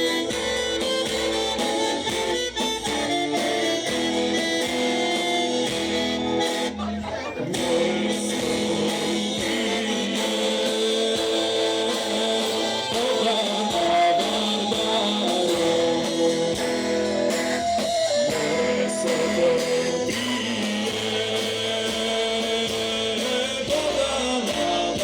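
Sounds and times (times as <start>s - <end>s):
sustained melodic lead: 0.0s - 23.2s
guitar accompaniment: 0.0s - 25.0s.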